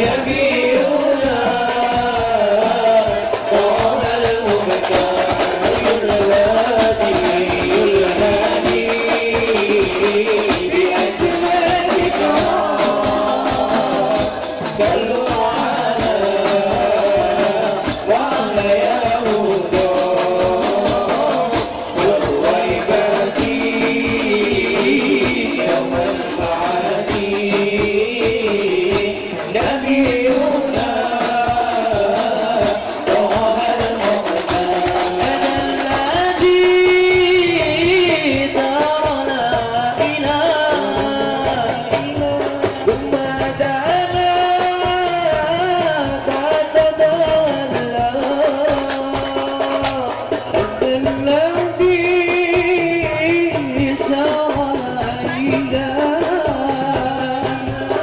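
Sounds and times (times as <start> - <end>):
hand drum and tambourine: 0.0 - 58.0
young men singing devotional songs: 0.0 - 58.0.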